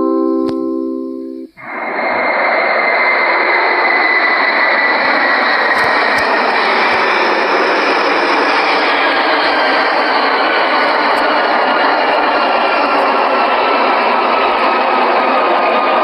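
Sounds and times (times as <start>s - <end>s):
thin engine whine: 0.0s - 16.0s
airliner engines rushing: 1.6s - 16.0s.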